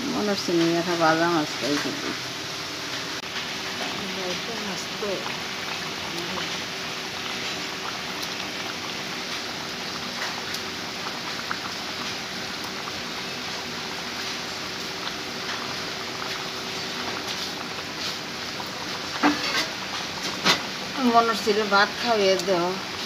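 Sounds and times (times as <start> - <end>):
curry simmering bubbling: 0.0 - 23.0.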